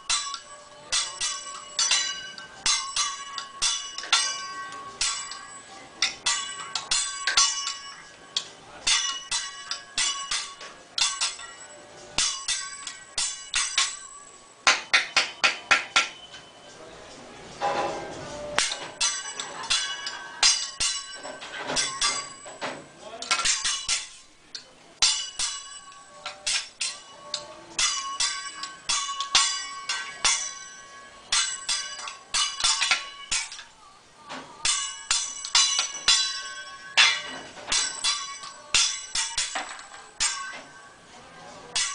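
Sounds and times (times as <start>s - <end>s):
metal spatula clanging on griddle: 0.0s - 16.5s, 17.6s - 41.0s, 41.6s - 41.9s.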